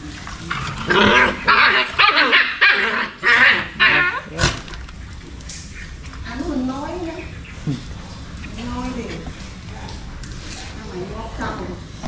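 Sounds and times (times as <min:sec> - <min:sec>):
puppies barking: 0:00.4 - 0:11.0.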